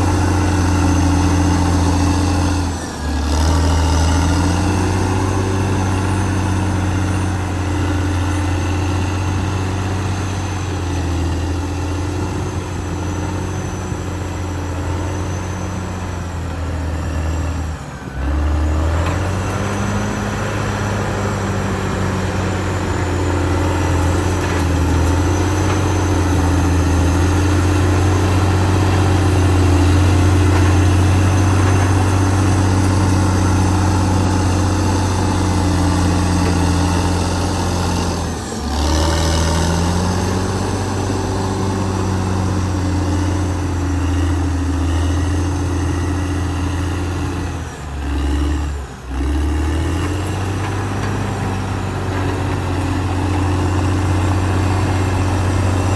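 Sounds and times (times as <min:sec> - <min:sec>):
bulldozer diesel engine drone: 0:00.0 - 0:55.9.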